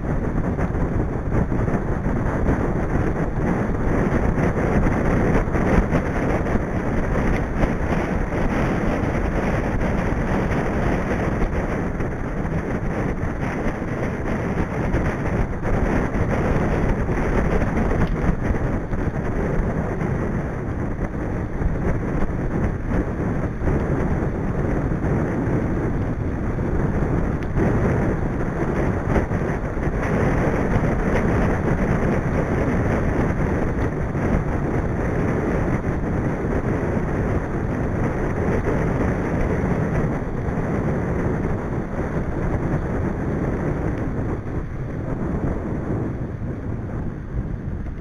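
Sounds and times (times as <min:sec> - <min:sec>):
wind rushing on microphone: 0:00.0 - 0:48.0.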